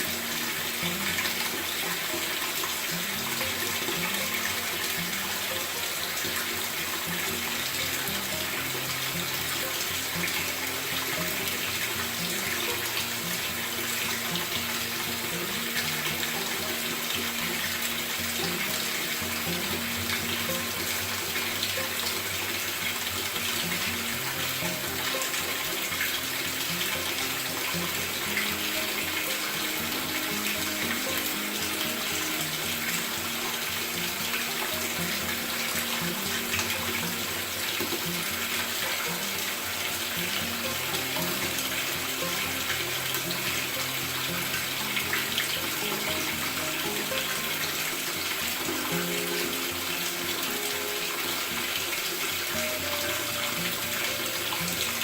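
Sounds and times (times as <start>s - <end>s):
water pouring into washer tub: 0.0s - 55.0s.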